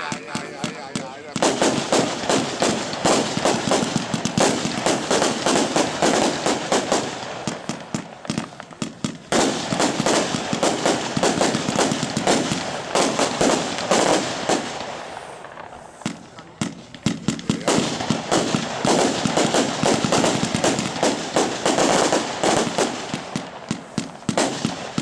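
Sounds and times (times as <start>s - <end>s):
fireworks cake firing: 0.0s - 25.0s.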